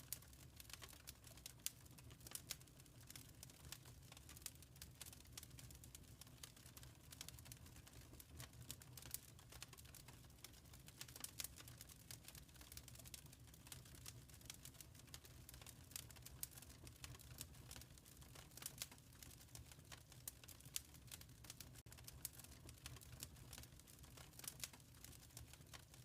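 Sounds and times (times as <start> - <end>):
wood fire crackling faintly: 0.0 - 26.0.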